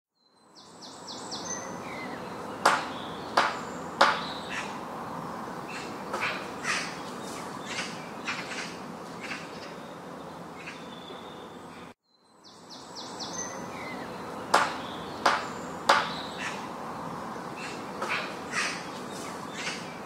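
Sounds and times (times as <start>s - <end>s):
birds chirping and calling: 0.5s - 20.0s
steady background hiss: 0.6s - 20.0s.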